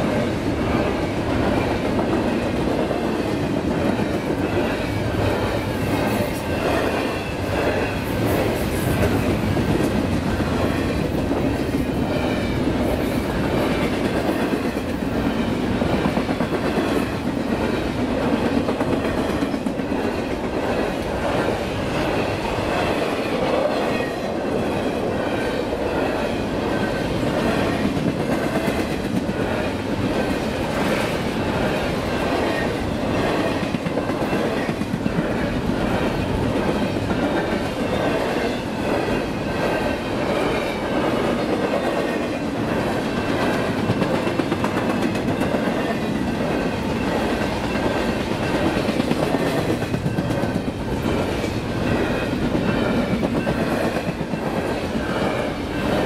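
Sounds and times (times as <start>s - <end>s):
freight train wheels rumbling: 0.0s - 56.0s
train wheels clicking on rails: 0.0s - 56.0s.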